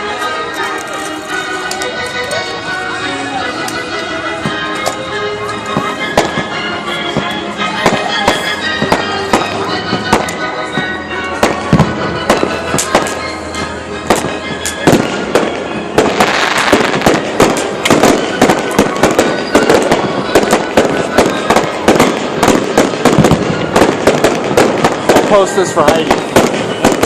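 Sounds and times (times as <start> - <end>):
fireworks crackling: 0.0 - 27.0
music playing: 0.0 - 27.0
fireworks bangs: 3.6 - 27.0.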